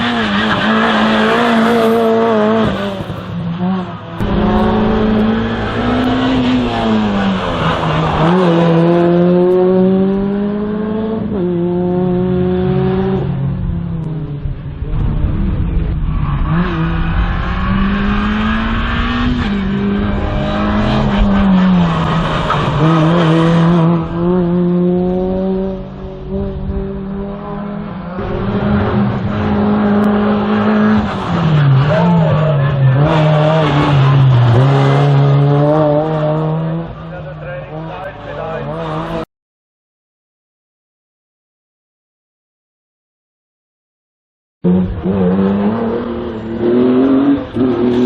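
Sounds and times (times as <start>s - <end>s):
race car engine revving: 0.0s - 39.3s, 44.6s - 48.0s.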